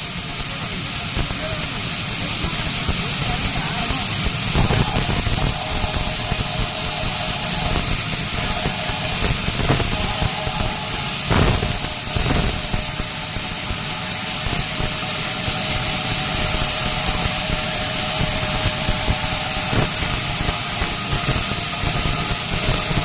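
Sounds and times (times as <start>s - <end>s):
faint steady hums: 0.0s - 23.0s
sawmill machinery hissing: 0.0s - 23.0s.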